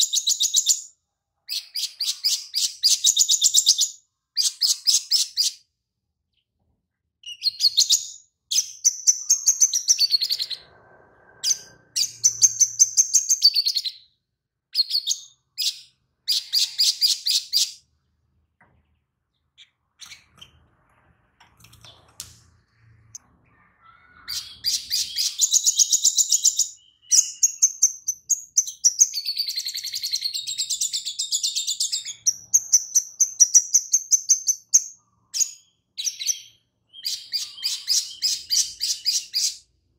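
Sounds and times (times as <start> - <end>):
bird chirping trills: 7.2 - 39.8.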